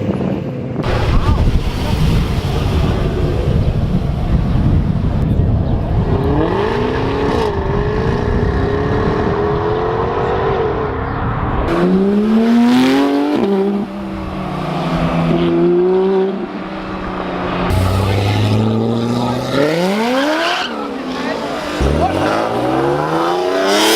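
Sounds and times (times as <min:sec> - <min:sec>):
car engines revving and accelerating: 0:00.0 - 0:23.9.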